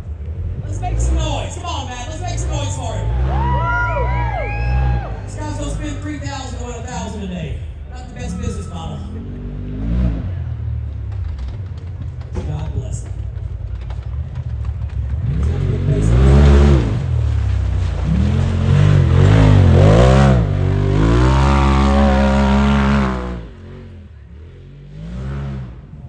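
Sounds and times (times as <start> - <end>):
vehicle engine revving: 0.0 - 12.4, 13.0 - 26.0.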